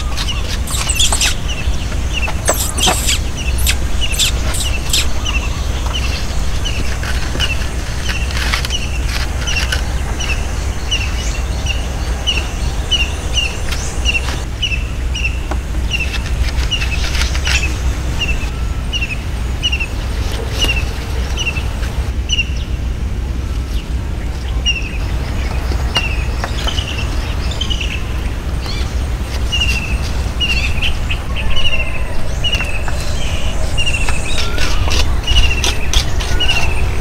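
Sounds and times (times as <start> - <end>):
bird chirping: 0.0 - 21.7, 23.7 - 37.0.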